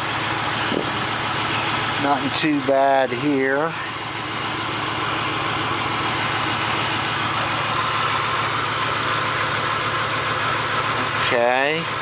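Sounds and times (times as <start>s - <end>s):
car engine idling rough: 0.0s - 12.0s.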